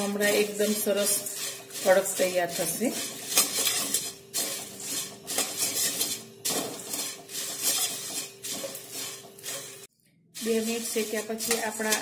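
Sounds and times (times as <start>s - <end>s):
spatula scraping a pan: 0.0s - 12.0s.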